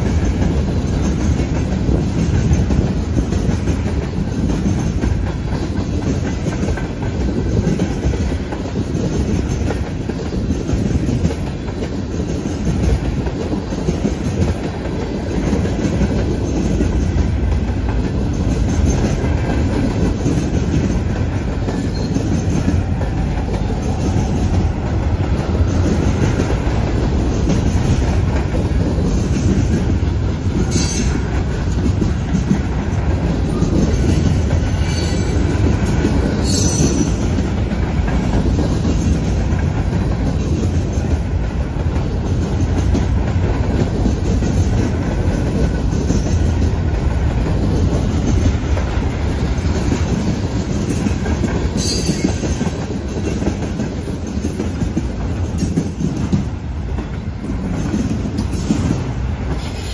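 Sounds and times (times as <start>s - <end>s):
train wheels rumbling: 0.0s - 59.9s
wheels clacking over rail joints: 0.0s - 59.9s.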